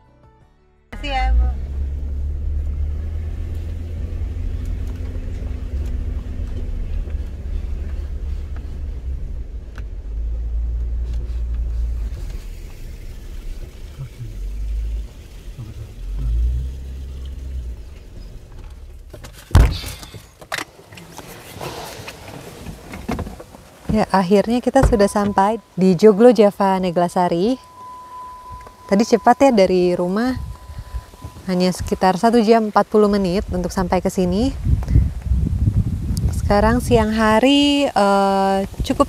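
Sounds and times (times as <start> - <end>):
car driving rumble: 0.9 - 39.0.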